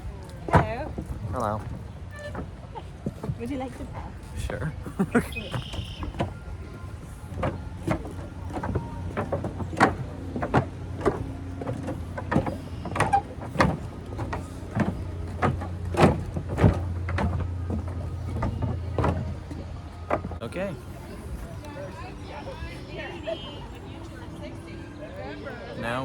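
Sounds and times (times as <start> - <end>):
footsteps on bridge deck: 0.0 - 26.0.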